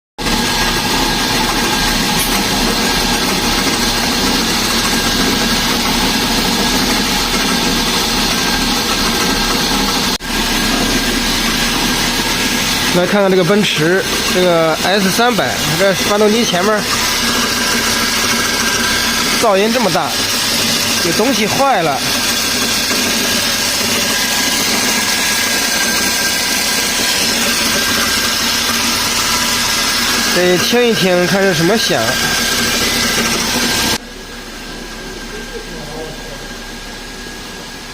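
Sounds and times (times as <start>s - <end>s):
bearing rattling: 0.2s - 34.0s
loud grinding noise: 0.2s - 35.6s
car engine idling: 0.2s - 37.9s.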